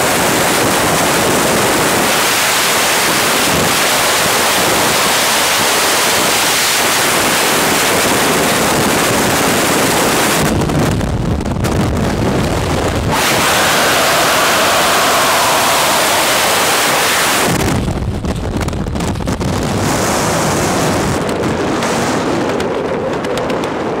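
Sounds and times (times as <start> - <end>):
wind roaring over microphone: 0.0 - 24.0.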